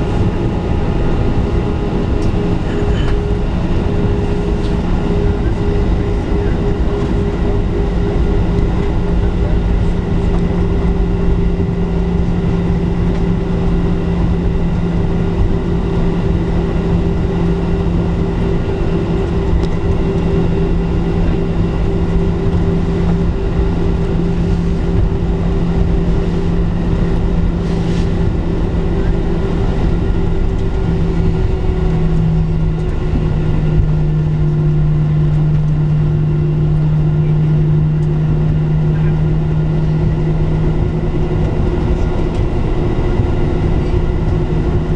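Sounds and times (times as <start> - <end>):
constant cabin rumble: 0.0 - 44.9
jet engines idling hum and whine: 0.0 - 44.9.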